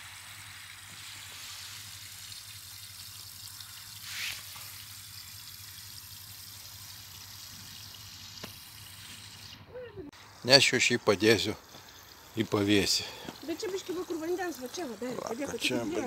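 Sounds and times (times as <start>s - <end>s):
water trickling into a pond: 0.0s - 16.0s.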